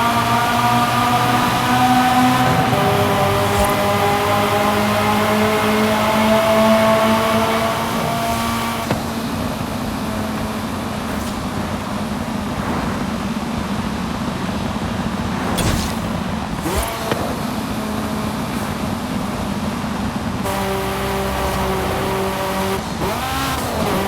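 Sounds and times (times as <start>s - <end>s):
car engine running: 0.0s - 24.0s
road and wind noise: 0.0s - 24.0s.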